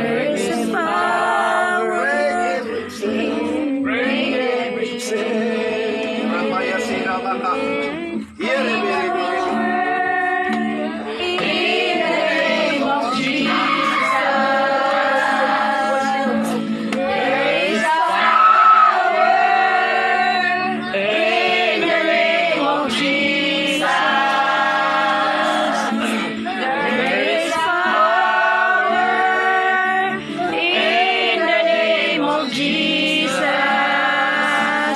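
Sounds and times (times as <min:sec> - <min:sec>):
choir singing: 0:00.0 - 0:34.9.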